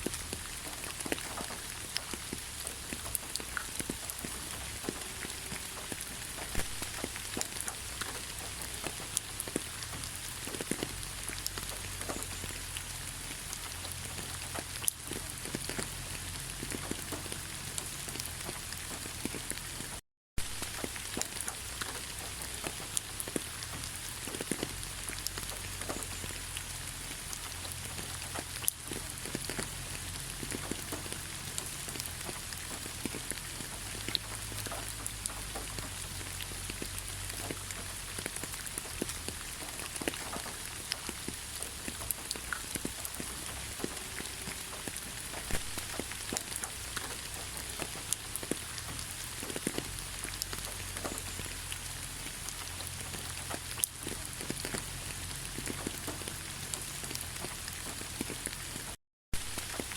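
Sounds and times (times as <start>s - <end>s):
rain falling: 0.0s - 59.9s
raindrops ticking close by: 0.0s - 59.9s.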